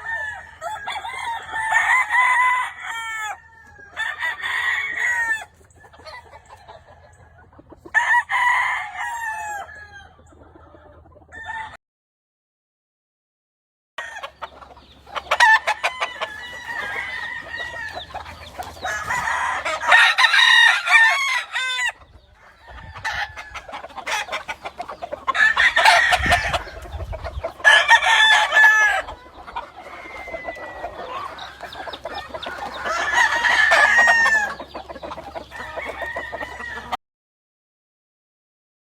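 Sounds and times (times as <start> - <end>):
hens clucking: 0.0 - 11.8, 14.0 - 37.0
roosters crowing: 0.0 - 11.8, 14.0 - 37.0.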